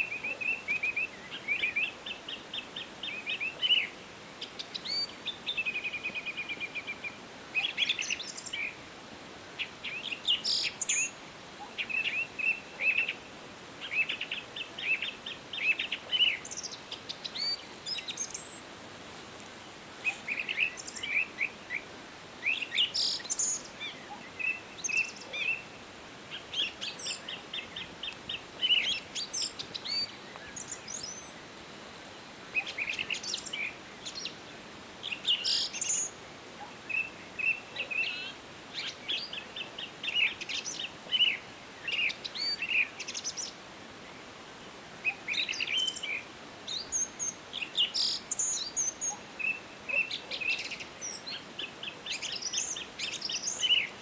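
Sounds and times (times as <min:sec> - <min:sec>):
songbirds singing: 0:00.0 - 0:54.0
steady soft hiss: 0:00.0 - 0:54.0.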